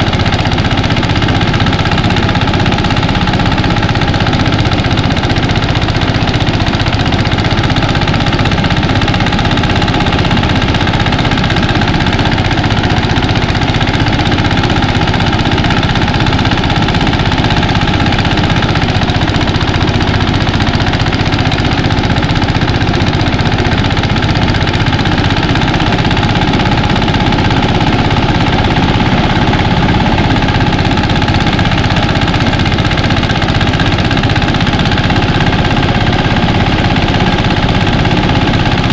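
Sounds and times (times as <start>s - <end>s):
rice thresher engine running: 0.0s - 38.9s.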